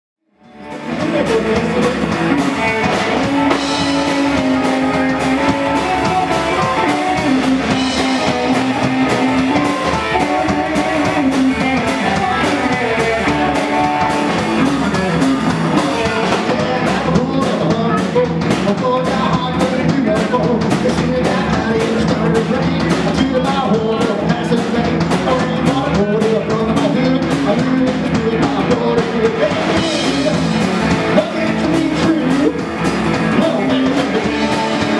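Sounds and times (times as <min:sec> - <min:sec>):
live rock and roll band: 0:00.4 - 0:34.9
slapped upright bass: 0:00.6 - 0:34.9.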